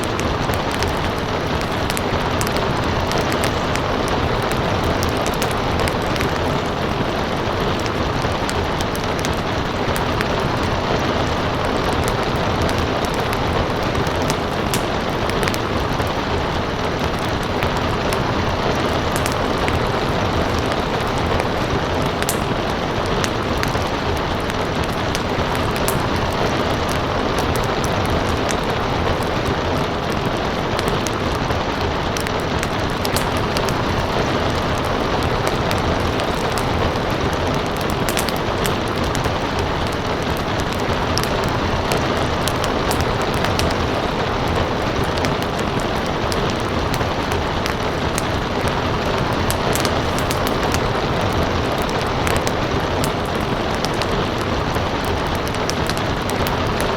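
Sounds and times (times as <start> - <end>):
steady rain falling: 0.0 - 56.9
wood fire crackling: 0.0 - 56.9.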